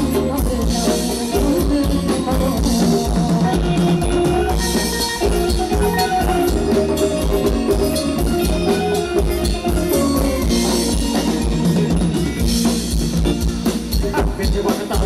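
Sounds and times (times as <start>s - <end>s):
bass drum and snare beat: 0.0s - 15.0s
live dance band music: 0.0s - 15.0s.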